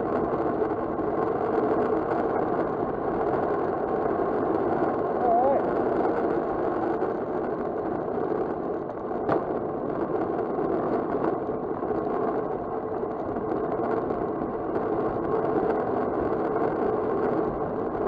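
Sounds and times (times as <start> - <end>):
bicycle tyre noise on asphalt: 0.0 - 18.0.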